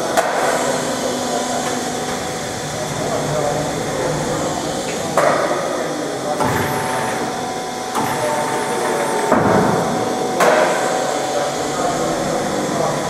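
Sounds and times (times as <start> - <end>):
block-making machine running: 0.0 - 13.0
motor whine: 0.0 - 13.0.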